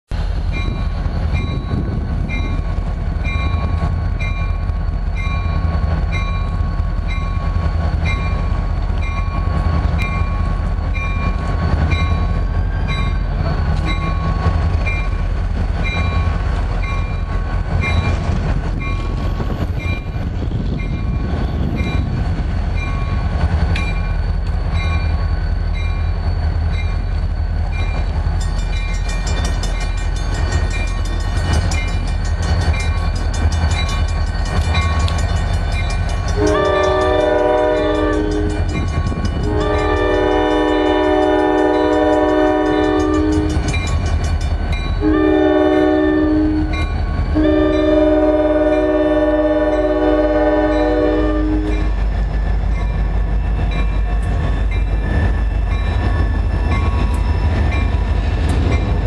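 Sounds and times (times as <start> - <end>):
diesel locomotive engine rumble: 0.0 - 59.0
locomotive bell ringing: 0.5 - 20.2, 20.8 - 59.0.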